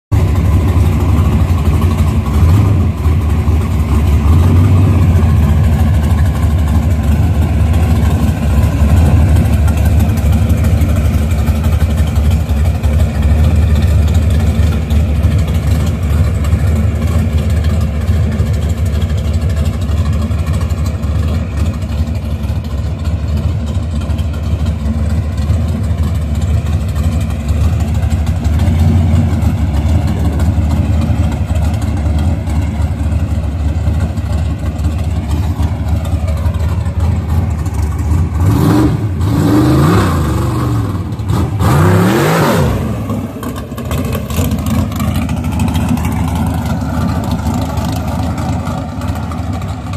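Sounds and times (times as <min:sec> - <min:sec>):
car engine idling: 0:00.1 - 0:49.9.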